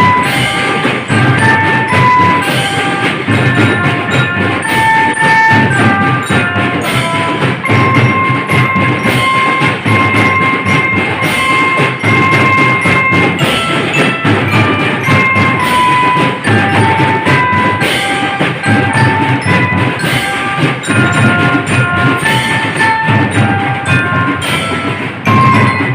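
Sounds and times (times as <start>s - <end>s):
drum beat: 0.0s - 25.9s
high held-note melody: 0.0s - 25.9s
marching drum band playing: 0.0s - 25.9s.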